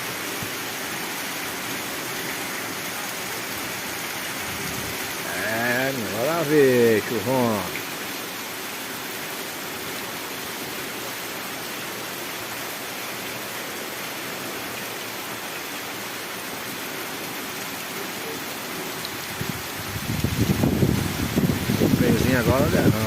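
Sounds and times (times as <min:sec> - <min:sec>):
water rushing: 0:00.0 - 0:23.0.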